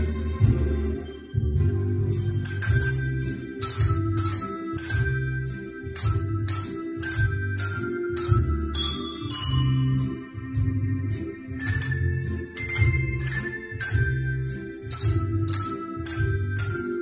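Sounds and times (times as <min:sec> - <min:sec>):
hand bells ringing a tune: 0:00.0 - 0:17.0
musical accompaniment with bass pulse: 0:00.0 - 0:17.0.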